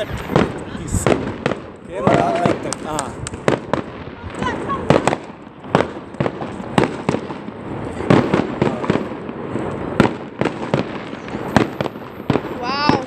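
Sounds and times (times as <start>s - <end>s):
fireworks bangs and pops: 0.0s - 13.0s
fireworks crackling: 0.0s - 13.0s.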